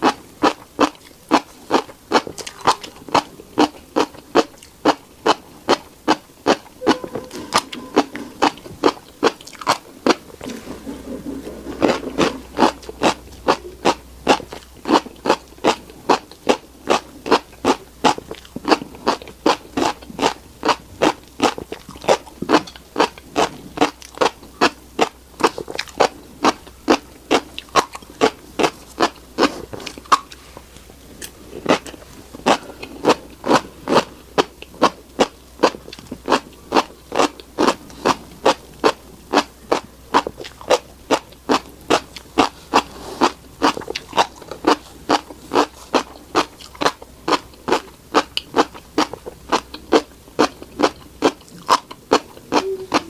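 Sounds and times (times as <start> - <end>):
chewing seeds: 0.0 - 53.0.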